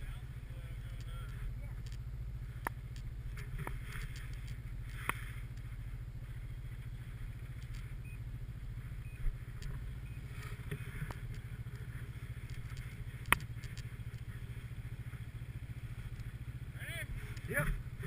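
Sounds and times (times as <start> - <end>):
snowmobile engine droning: 0.0 - 18.0.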